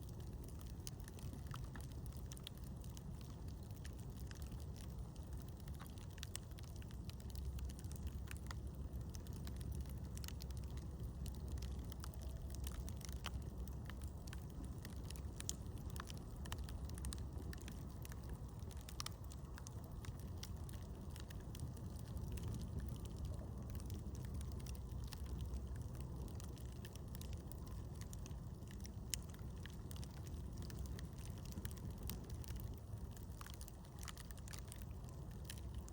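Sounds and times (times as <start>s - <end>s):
campfire wood crackling and popping: 0.0s - 35.9s
low steady rumble: 0.0s - 35.9s.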